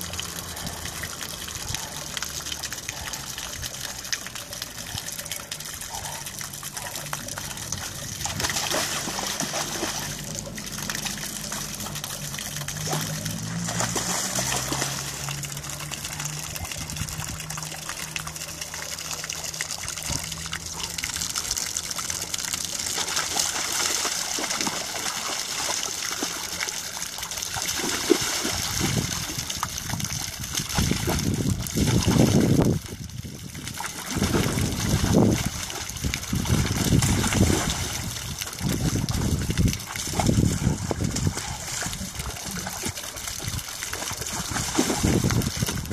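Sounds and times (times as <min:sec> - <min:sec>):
dog splashing through water: 0:00.1 - 0:45.9.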